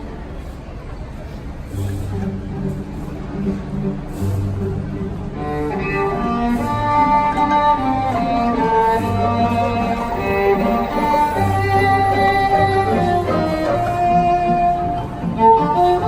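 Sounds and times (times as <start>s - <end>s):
cello and bass notes: 0.0s - 16.0s
violins playing melody: 1.7s - 16.0s.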